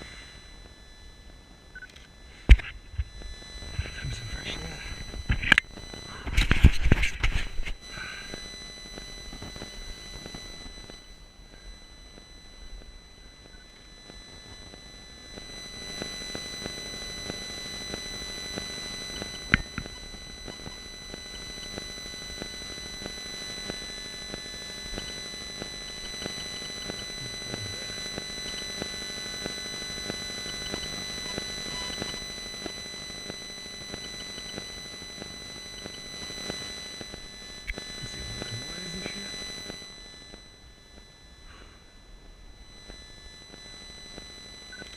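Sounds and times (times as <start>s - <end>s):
electronic interference buzz: 0.0s - 44.9s.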